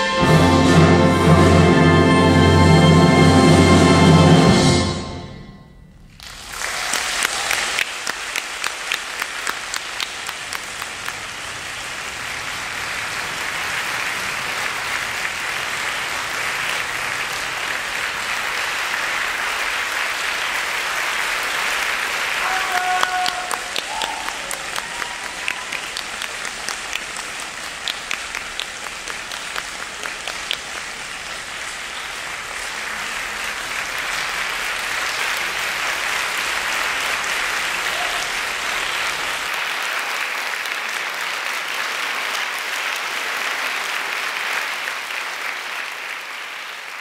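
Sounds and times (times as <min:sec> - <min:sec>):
audience applauding: 0:06.1 - 0:47.0.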